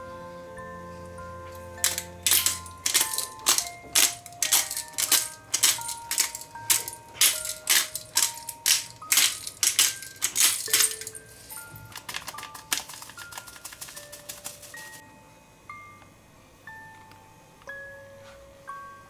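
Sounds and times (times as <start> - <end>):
background music melody: 0.0 - 19.0.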